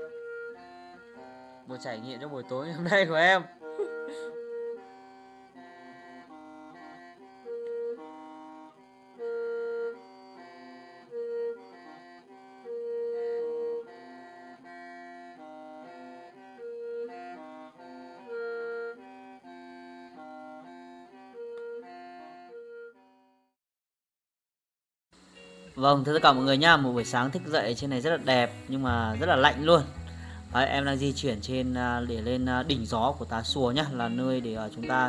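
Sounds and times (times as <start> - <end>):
mouth organ playing a tune: 0.0 - 23.1, 25.3 - 35.0.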